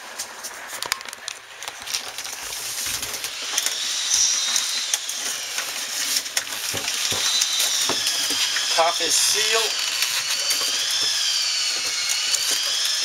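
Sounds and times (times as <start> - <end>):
duct tape ripping off roll: 0.7 - 13.0.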